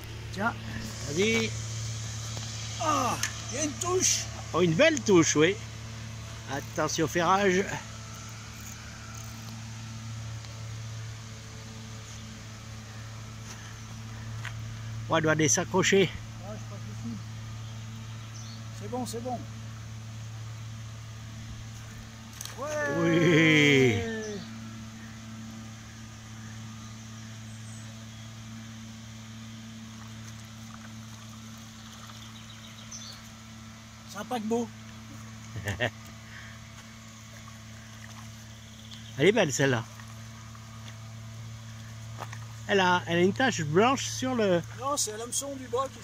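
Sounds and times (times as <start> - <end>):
faint outdoor background: 0.0 - 46.0
low mechanical hum: 0.0 - 46.0.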